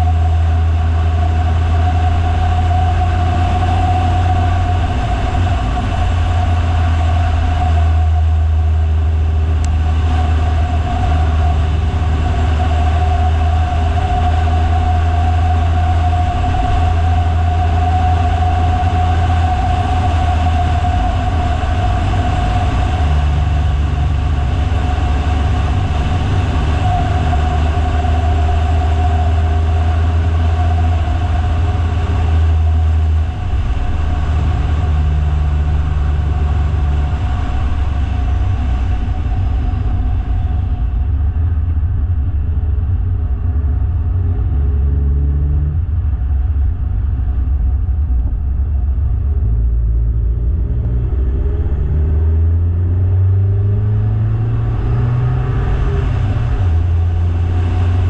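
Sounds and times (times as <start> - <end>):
constant whine: 0.0 - 58.0
vehicle engine and road drone: 0.0 - 58.0.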